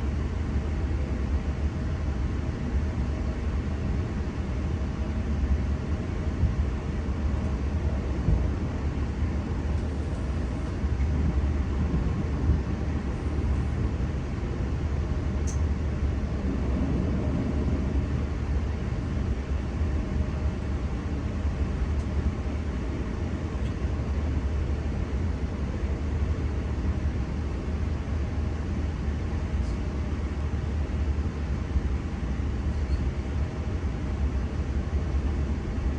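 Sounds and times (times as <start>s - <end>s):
train rumbling: 0.0s - 35.9s.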